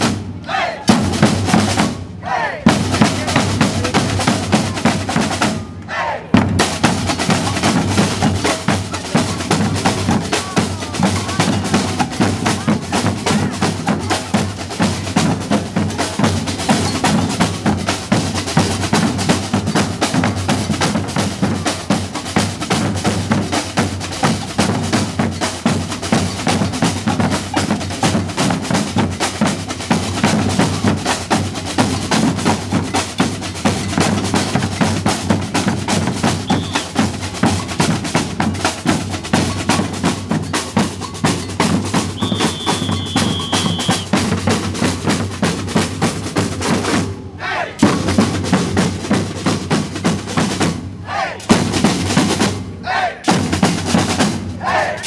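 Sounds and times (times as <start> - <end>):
percussion ensemble drum groove: 0.0 - 55.0.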